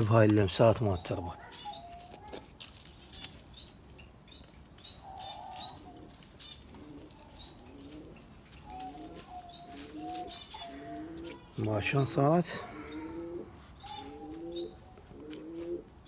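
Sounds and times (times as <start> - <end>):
doves cooing: 0.0 - 3.4, 4.4 - 16.0
small birds chirping: 0.0 - 16.0.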